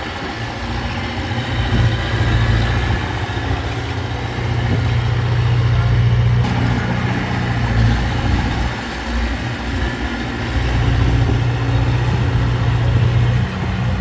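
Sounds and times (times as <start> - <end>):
large diesel engine running: 0.0 - 14.0.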